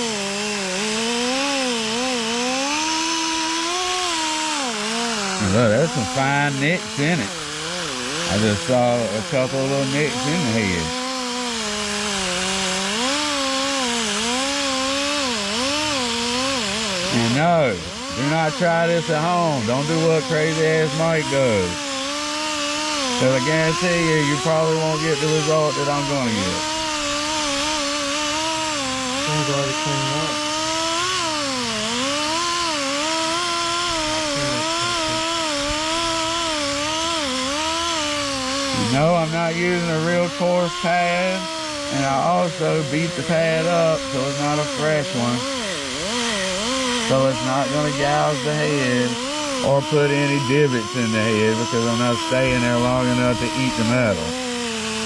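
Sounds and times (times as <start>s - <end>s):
abrasive pad scrubbing metal: 0.0s - 55.0s
rotary power tool whine: 0.0s - 55.0s.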